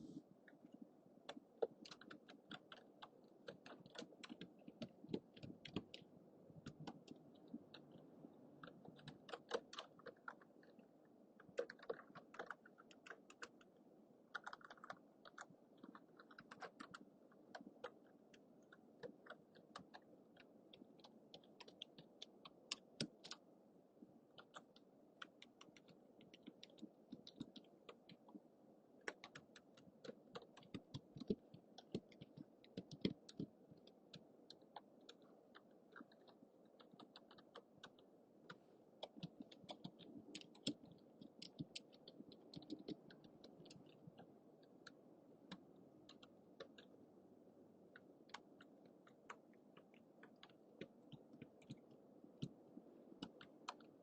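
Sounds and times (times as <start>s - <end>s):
low background hum: 0.0s - 54.0s
typing on computer keyboard: 1.3s - 8.0s, 8.6s - 10.8s, 11.4s - 13.7s, 14.3s - 23.4s, 24.3s - 28.4s, 29.0s - 46.9s, 47.9s - 51.8s, 53.2s - 54.0s.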